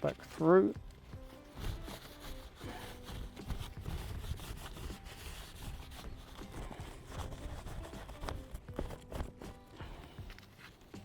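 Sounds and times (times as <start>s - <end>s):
hands rubbing plastic sheeting: 0.0s - 11.0s.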